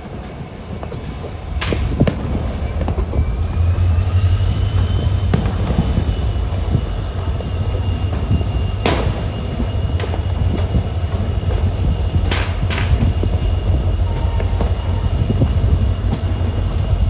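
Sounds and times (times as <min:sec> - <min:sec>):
thin high whine: 0:00.0 - 0:17.0
train hum and rumble: 0:00.0 - 0:17.0.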